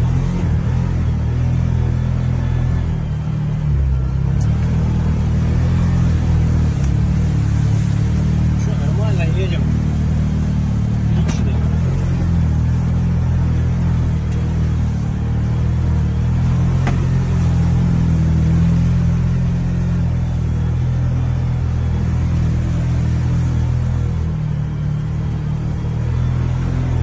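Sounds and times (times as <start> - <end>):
off-road vehicle engine droning: 0.0 - 27.0.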